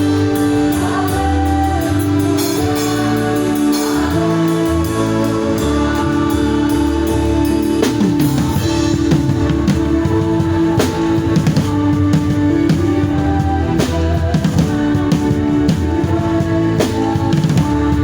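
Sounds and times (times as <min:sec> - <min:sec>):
band held chords: 0:00.0 - 0:18.0
drum kit playing: 0:00.0 - 0:18.0.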